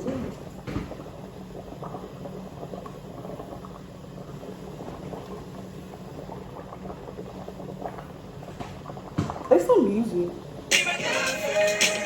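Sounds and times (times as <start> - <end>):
water boiling: 0.0 - 12.0.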